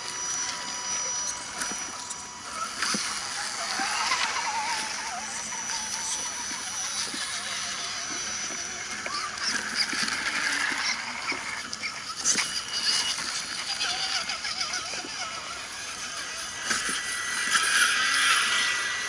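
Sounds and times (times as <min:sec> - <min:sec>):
electric motors and gears whirring: 0:00.0 - 0:19.0.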